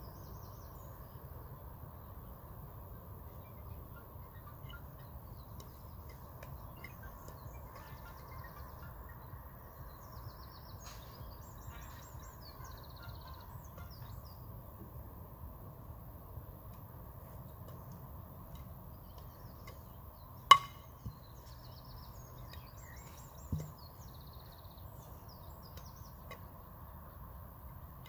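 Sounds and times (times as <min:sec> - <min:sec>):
small birds trilling: 0:00.0 - 0:14.8, 0:16.4 - 0:27.9.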